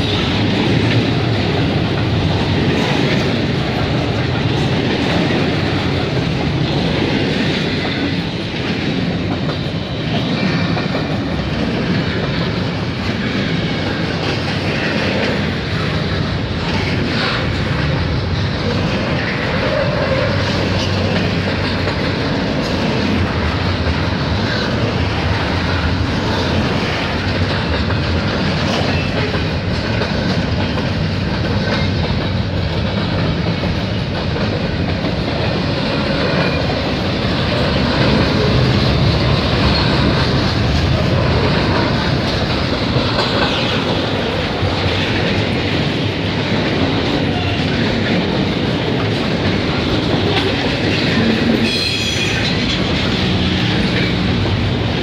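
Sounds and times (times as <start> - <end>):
train wheel-on-rail noise: 0.0 - 55.0.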